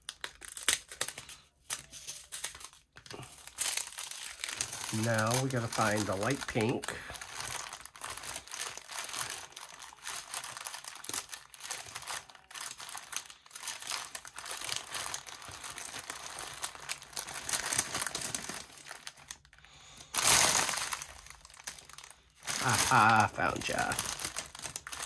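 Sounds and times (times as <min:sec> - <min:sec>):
plastic bag crinkling and rustling: 0:00.0 - 0:25.0.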